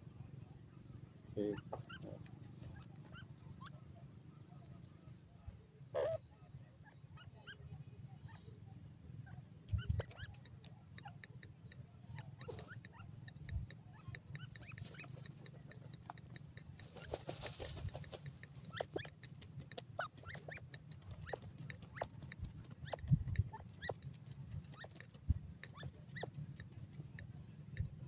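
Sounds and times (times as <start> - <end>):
steady low hum: 0.0 - 28.0
young birds peeping chirps: 0.2 - 28.0.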